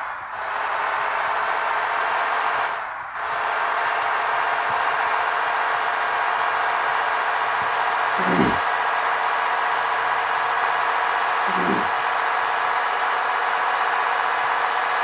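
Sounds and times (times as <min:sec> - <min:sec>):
video game engine and road noise: 0:00.0 - 0:15.0.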